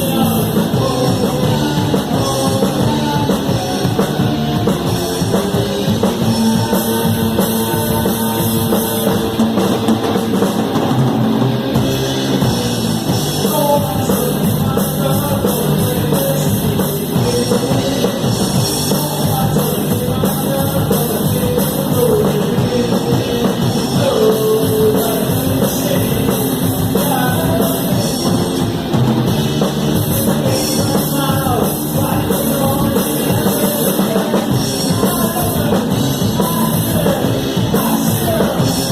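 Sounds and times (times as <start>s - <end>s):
person singing: 0.0s - 9.6s, 12.4s - 28.6s, 29.9s - 38.9s
loud close drums: 0.0s - 38.9s
rock band playing live: 0.0s - 38.9s.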